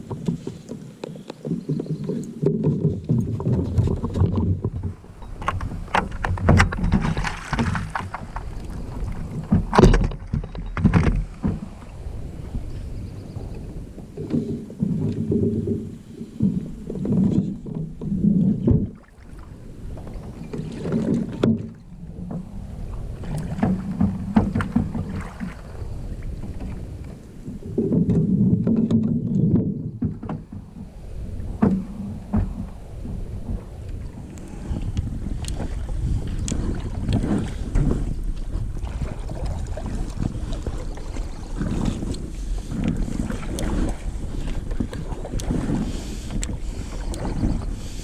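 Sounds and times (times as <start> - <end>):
low rumbling from kayak hull: 0.0 - 48.0.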